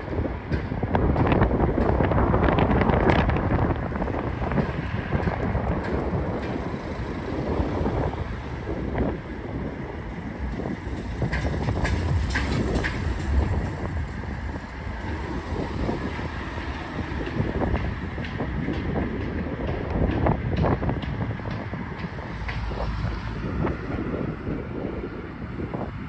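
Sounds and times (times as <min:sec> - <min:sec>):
low rumble of passing traffic: 0:00.0 - 0:26.0
wind on microphone: 0:00.0 - 0:26.0.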